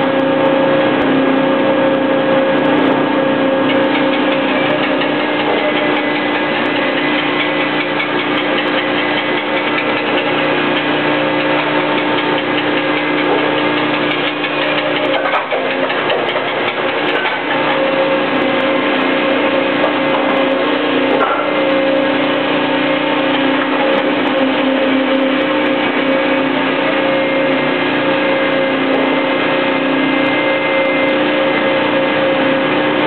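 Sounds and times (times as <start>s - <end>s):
industrial machine humming: 0.0s - 33.0s.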